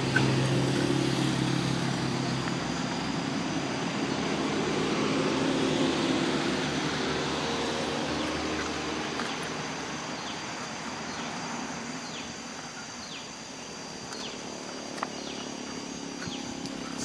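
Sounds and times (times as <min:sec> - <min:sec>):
passing vehicle: 0:00.0 - 0:17.0.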